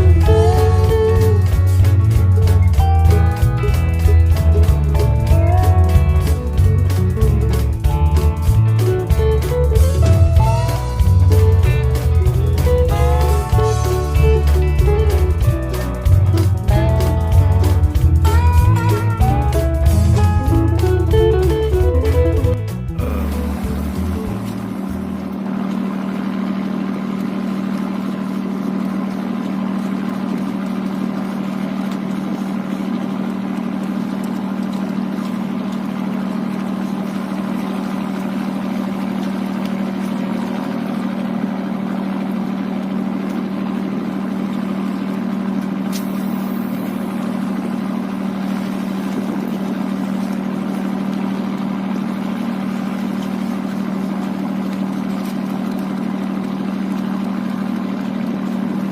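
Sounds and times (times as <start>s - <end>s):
boat engine humming: 0.0s - 58.9s.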